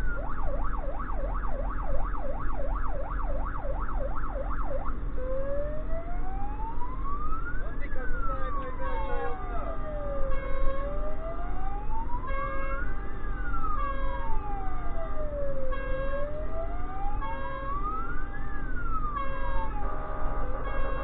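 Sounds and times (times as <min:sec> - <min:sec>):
emergency siren wailing: 0:00.0 - 0:21.0
multi-tone siren bursts: 0:00.0 - 0:21.0
truck engine and tyres rumbling: 0:00.0 - 0:21.0.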